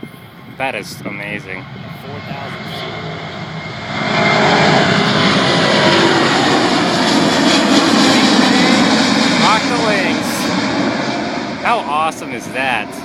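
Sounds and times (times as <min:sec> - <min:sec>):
jet engines rushing rumble: 0:00.0 - 0:13.0.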